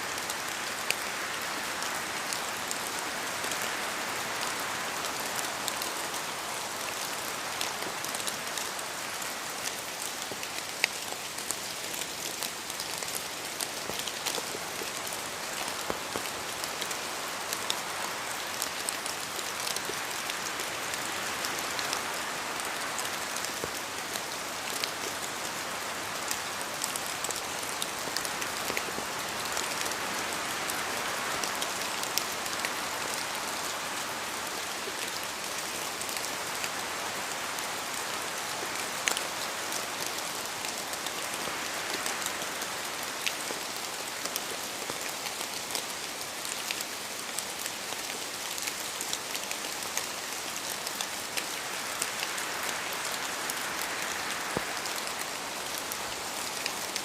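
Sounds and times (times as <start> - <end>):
rain falling in forest: 0.0 - 57.0
raindrops ticking close by: 0.1 - 57.0.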